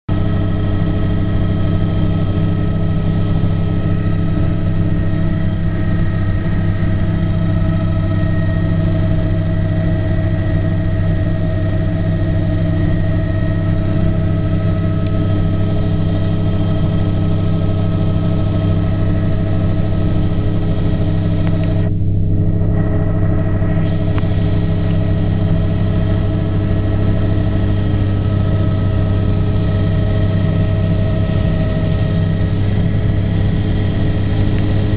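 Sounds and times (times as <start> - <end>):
aircraft engine running: 0.1 - 34.9.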